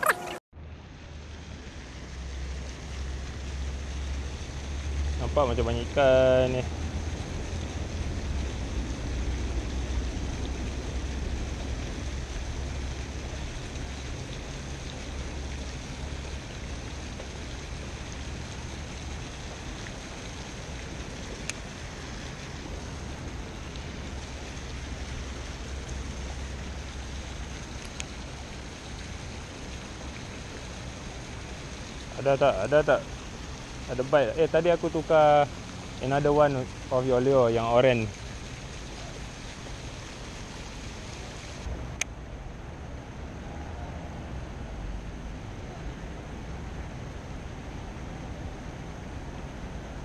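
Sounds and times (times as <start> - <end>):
aerator jets splashing water: 1.0 - 42.3.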